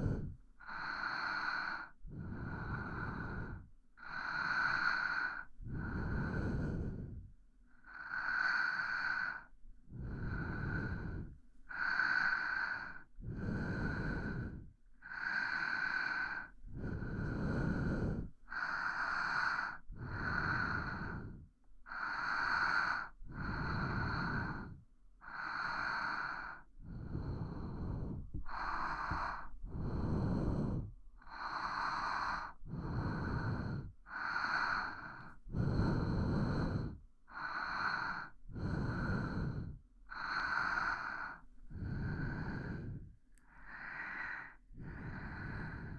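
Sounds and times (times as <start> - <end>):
person breathing slowly: 0.0 - 45.9.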